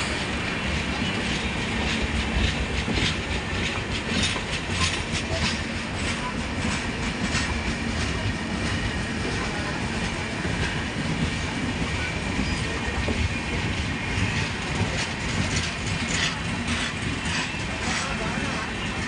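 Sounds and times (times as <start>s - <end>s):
train wheels clattering over rails: 0.0s - 19.0s.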